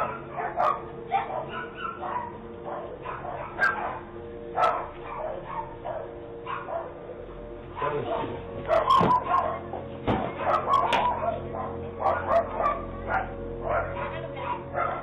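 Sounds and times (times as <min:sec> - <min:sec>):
dog barking and yipping: 0:00.0 - 0:04.0, 0:04.6 - 0:07.2, 0:07.8 - 0:15.0
faint hum: 0:00.0 - 0:15.0.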